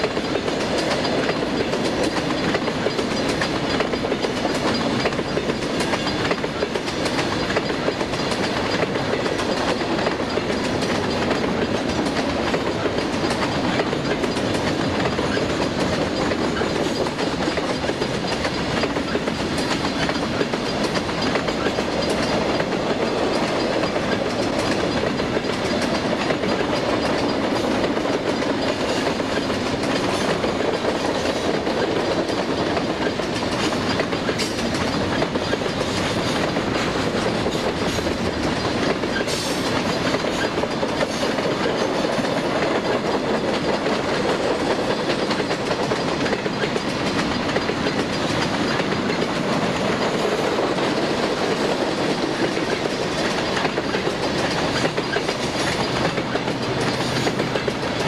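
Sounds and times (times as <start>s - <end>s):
train wheels rumbling on rails: 0.0s - 58.0s
wheels clicking on rails: 0.0s - 58.0s.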